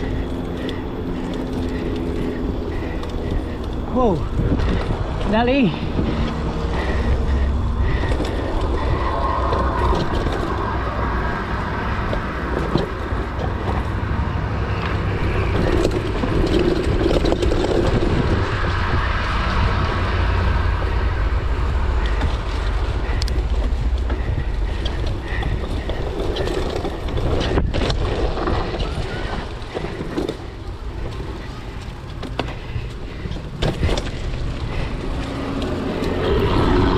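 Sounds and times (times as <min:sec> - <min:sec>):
bike clattering over bumps: 0:00.0 - 0:19.9, 0:20.6 - 0:36.9
wind rushing over microphone: 0:00.0 - 0:36.9.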